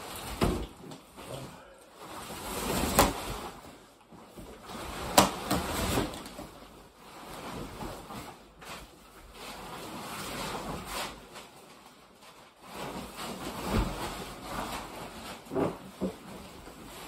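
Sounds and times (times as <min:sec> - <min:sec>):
fabric rustling: 0:00.0 - 0:17.0.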